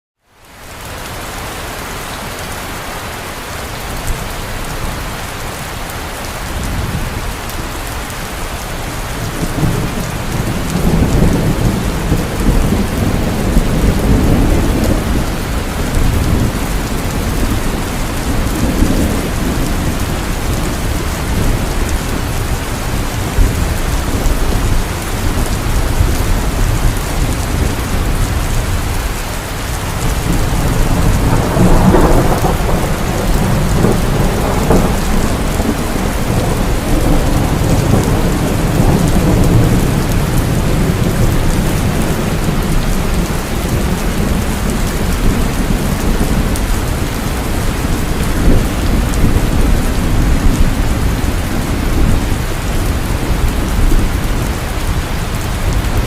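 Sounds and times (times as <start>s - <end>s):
heavy rain: 0.2s - 56.0s
rolling thunder: 8.9s - 56.0s.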